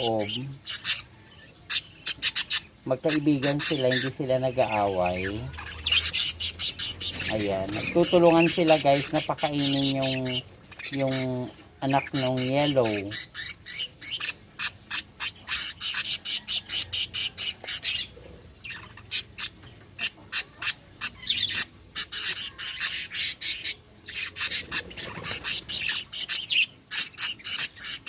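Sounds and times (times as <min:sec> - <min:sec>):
budgerigars chirping: 0:00.0 - 0:28.0.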